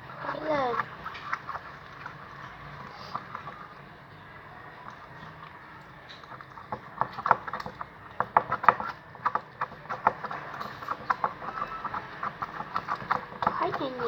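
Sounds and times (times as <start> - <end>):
stirrer clicking against container: 0.0 - 14.0.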